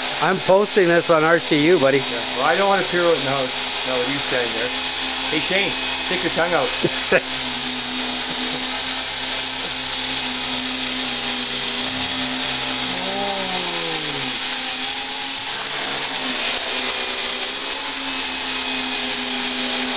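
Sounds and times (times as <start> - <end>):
helicopter motor whine: 0.0 - 19.9
rotor blades whirring: 0.0 - 19.9.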